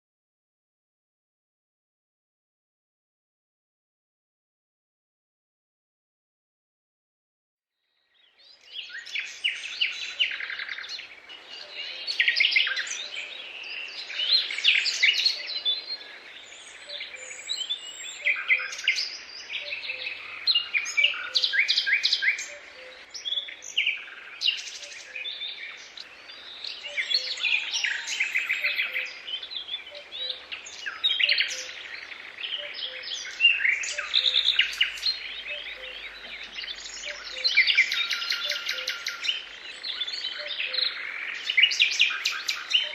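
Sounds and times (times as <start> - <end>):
birds singing: 7.9 - 42.9.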